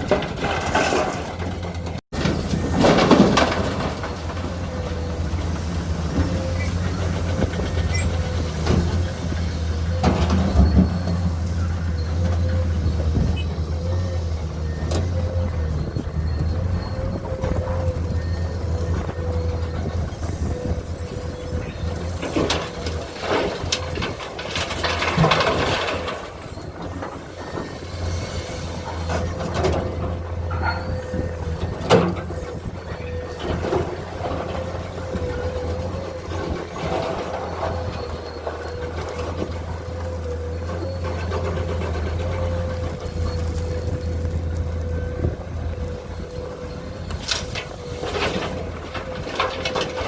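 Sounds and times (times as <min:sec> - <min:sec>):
diesel machinery running: 0:00.0 - 0:50.0.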